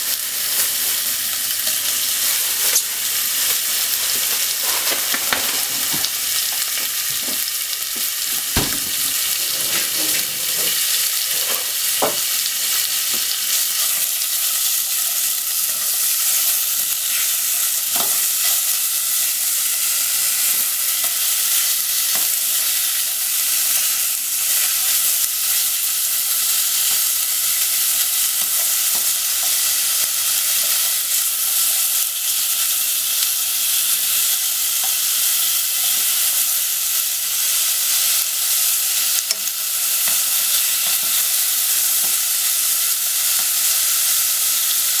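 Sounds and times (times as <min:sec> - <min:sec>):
meat sizzling in a pot: 0:00.0 - 0:45.0.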